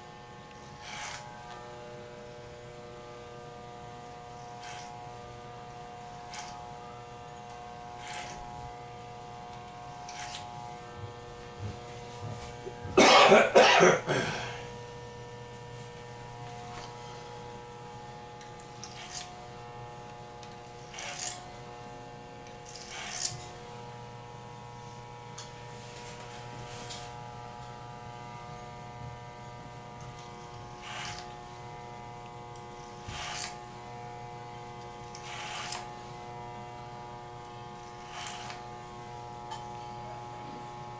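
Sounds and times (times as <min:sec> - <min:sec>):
clippers cutting hair: 0:00.0 - 0:40.9
electric hair clippers humming: 0:00.0 - 0:40.9.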